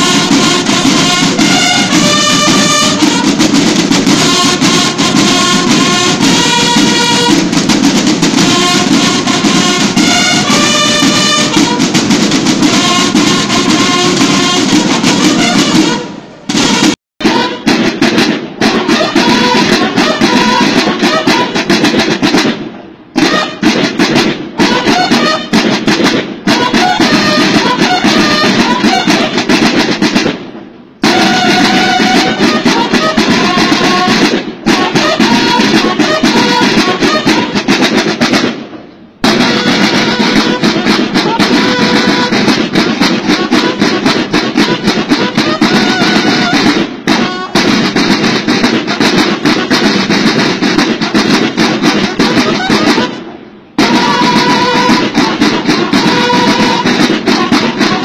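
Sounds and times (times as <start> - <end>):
music with drums and melody: 0.0 - 58.0.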